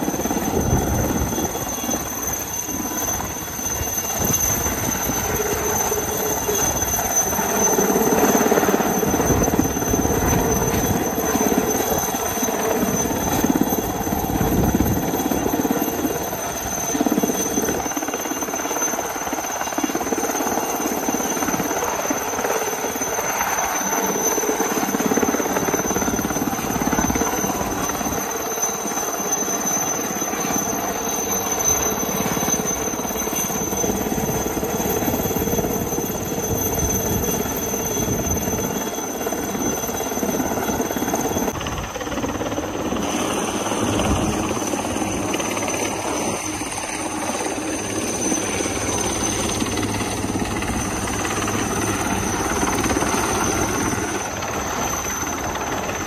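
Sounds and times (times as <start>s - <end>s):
helicopter rotor noise: 0.0s - 56.0s
high-pitched turbine whine: 0.0s - 56.0s.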